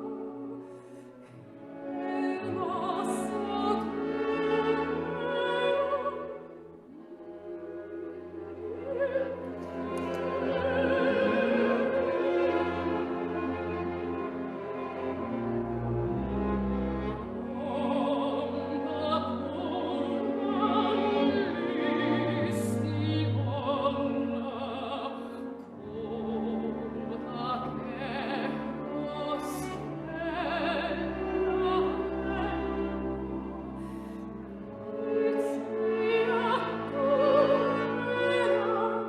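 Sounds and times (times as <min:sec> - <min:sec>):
orchestra with bowed strings: 0:00.0 - 0:39.0.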